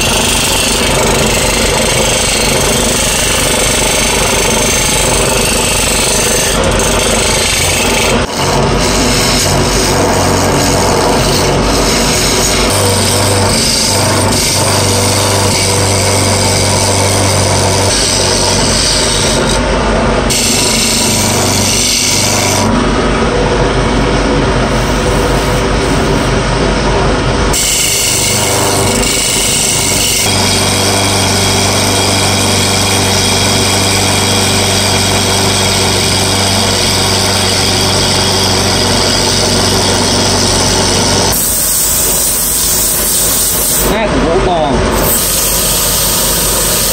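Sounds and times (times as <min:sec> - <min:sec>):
chisel shaving spinning wood: 0:00.0 - 0:22.7, 0:27.5 - 0:46.9
wood lathe motor hum: 0:00.0 - 0:26.4, 0:27.4 - 0:46.9.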